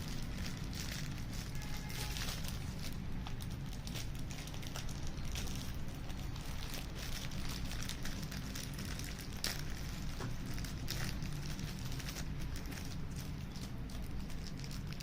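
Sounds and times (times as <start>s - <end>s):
steady low rumble: 0.0s - 1.5s, 2.1s - 15.0s.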